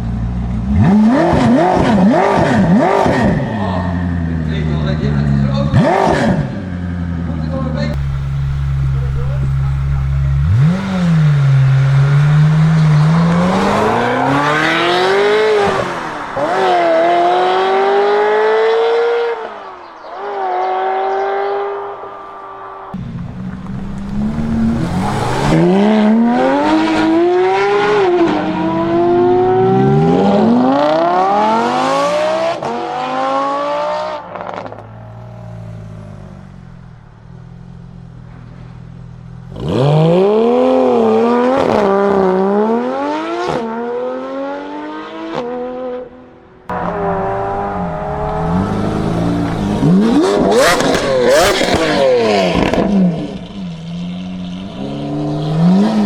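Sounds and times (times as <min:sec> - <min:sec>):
car engines accelerating hard: 0:00.0 - 0:38.8, 0:39.4 - 0:56.0.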